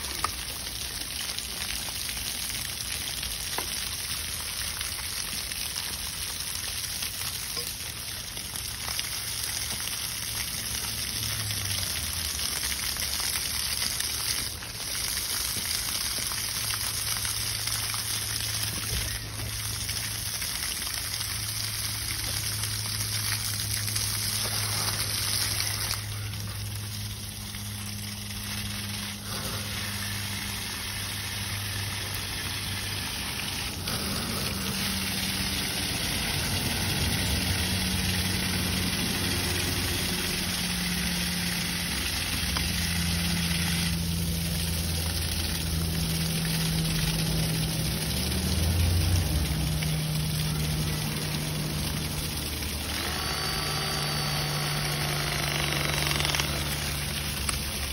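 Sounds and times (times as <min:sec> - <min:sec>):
water spraying from pipe: 0:00.0 - 0:57.9.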